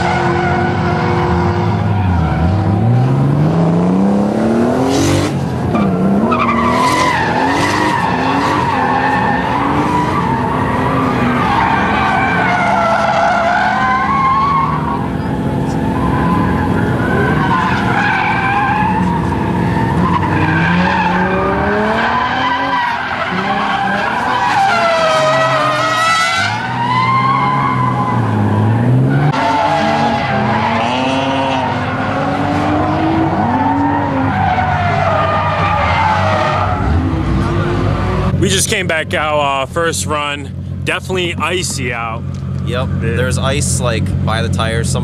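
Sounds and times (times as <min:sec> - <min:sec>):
car engines revving: 0:00.0 - 0:45.0
tyres screeching: 0:04.9 - 0:45.0.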